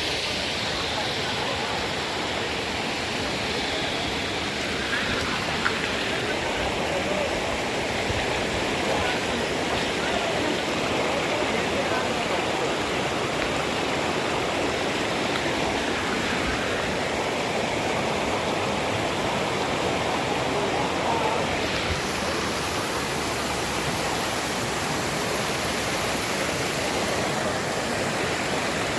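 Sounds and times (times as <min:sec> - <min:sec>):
waterfall splashing: 0:00.0 - 0:28.9.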